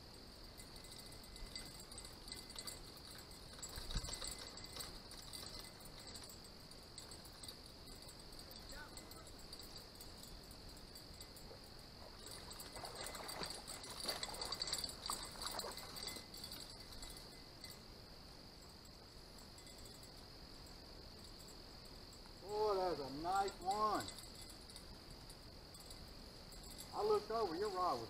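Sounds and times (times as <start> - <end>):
crickets and insects chirping: 0.0 - 28.0
faint indistinct sounds: 0.0 - 28.0.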